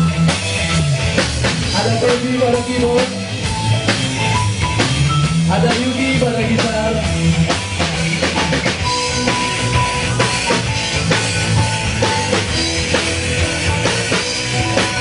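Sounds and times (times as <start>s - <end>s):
drum kit beating: 0.0s - 15.0s
rock band playing live: 0.0s - 15.0s.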